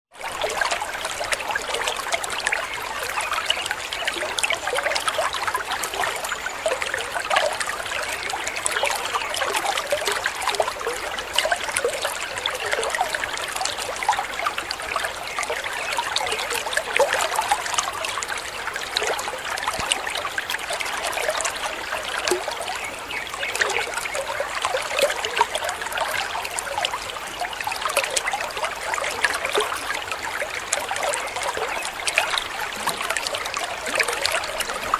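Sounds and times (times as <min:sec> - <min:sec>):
waterfall trickling and splashing: 0:00.1 - 0:34.9.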